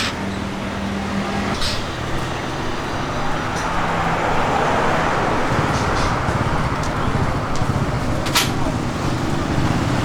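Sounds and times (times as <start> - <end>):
road traffic noise: 0.0 - 10.0
vehicle passing close by: 1.0 - 10.0.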